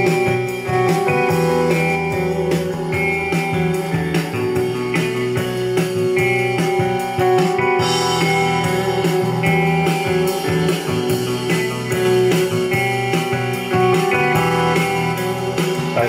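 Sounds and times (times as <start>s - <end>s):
bass line: 0.0s - 16.0s
guitar music through speaker: 0.0s - 16.0s.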